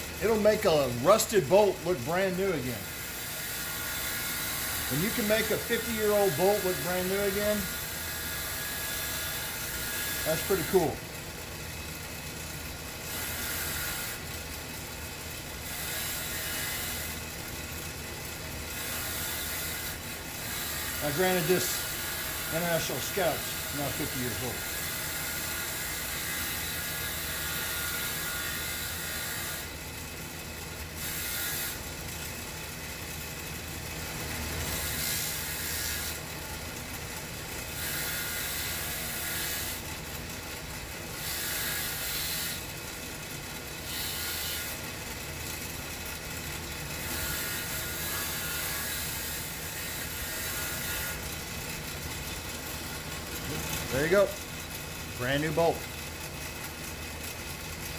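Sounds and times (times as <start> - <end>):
bench grinder running: 0.0 - 57.9.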